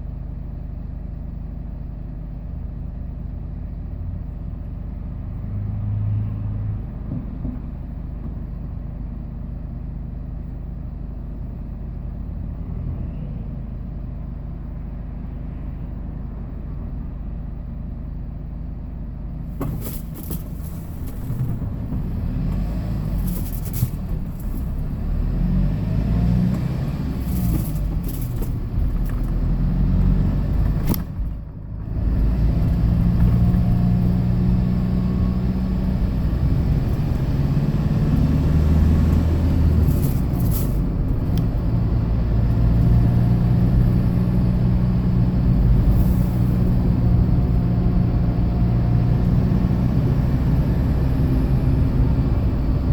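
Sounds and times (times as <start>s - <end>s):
rough engine and road noise: 0.0s - 52.9s
truck engine humming low: 0.0s - 52.9s.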